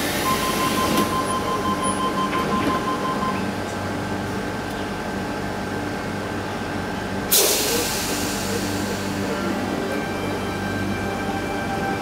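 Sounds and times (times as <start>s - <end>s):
train equipment humming: 0.0s - 12.0s.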